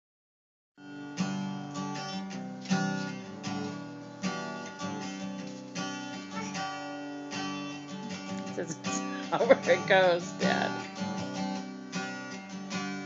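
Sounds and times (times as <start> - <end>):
guitar strumming: 0.8 - 13.0.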